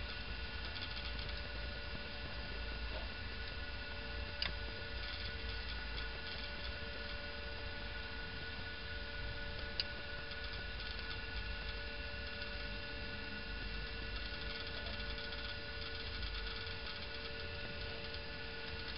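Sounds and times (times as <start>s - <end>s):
steady electrical hum: 0.0s - 18.9s.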